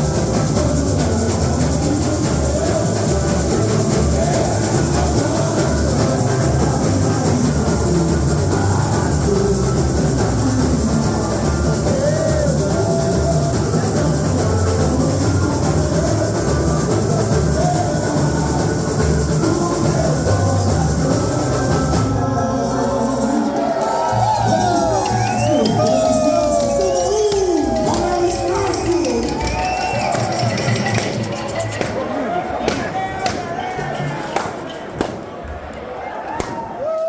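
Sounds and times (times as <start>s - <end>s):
bass drums beating samba rhythm: 0.0s - 34.6s
faint singing: 0.0s - 35.1s
shakers and percussion: 0.0s - 35.2s.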